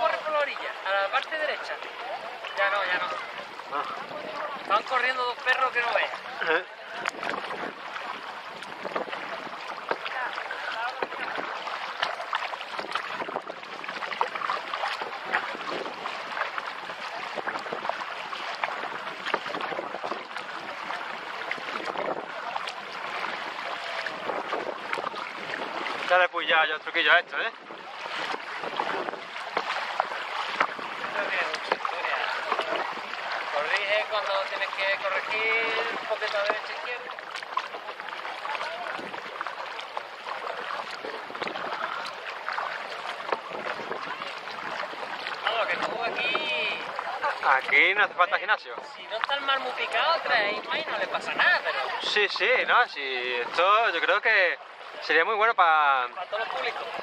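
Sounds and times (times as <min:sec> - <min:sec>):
water splashing against kayak: 0:00.0 - 0:57.0.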